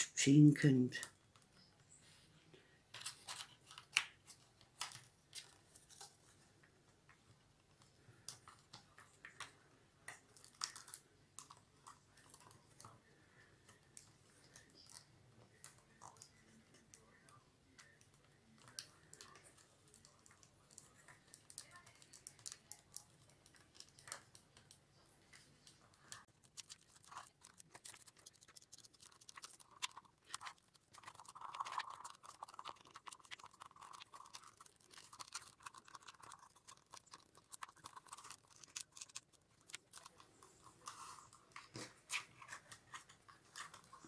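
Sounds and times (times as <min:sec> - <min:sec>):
paper tubes clicking and crackling: 0:02.8 - 0:44.0.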